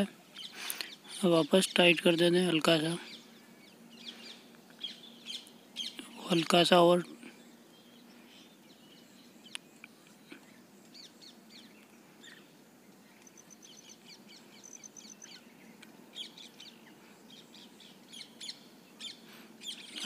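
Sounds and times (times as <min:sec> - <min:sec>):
faint steady hiss: 0:00.0 - 0:20.0
small birds chirping: 0:00.0 - 0:20.0.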